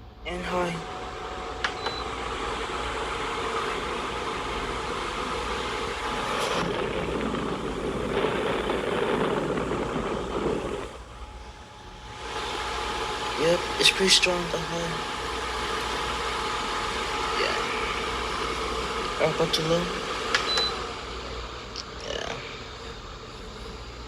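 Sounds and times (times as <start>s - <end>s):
air cooler fan running: 0.0s - 24.0s
faint hum: 0.0s - 24.0s.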